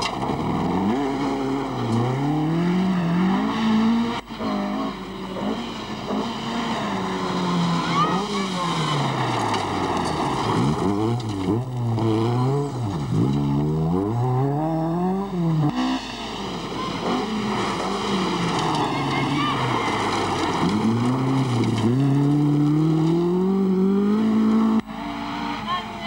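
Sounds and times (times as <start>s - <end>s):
rally car engine revving hard: 0.0s - 26.0s.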